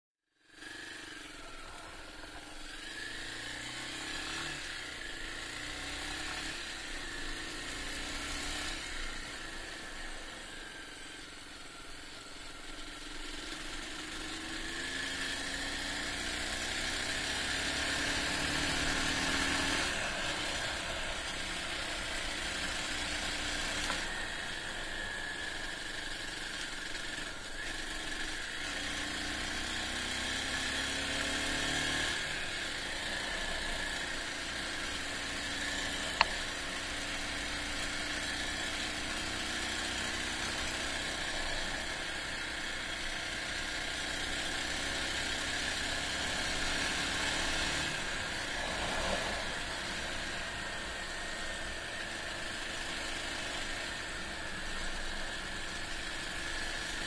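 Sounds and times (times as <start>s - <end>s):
motorcycle engine accelerating: 0.4s - 57.0s.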